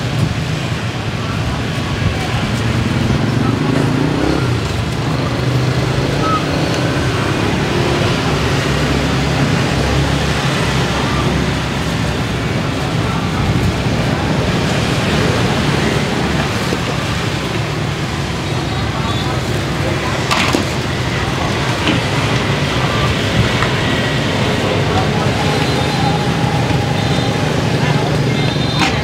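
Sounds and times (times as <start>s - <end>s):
busy city street traffic: 0.0s - 29.0s.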